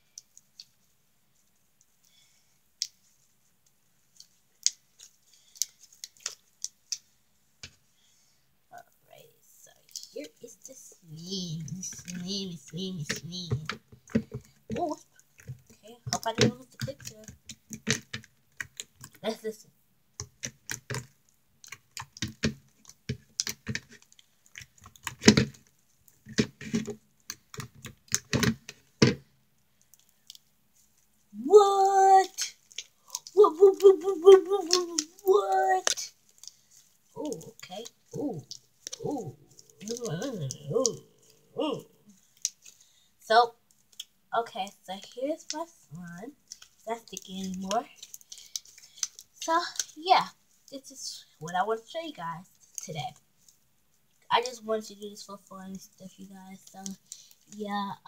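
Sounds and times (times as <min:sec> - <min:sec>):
slime squishing with wet clicks: 0:00.0 - 0:07.8, 0:11.8 - 0:19.3, 0:20.1 - 0:41.5, 0:42.1 - 0:57.9.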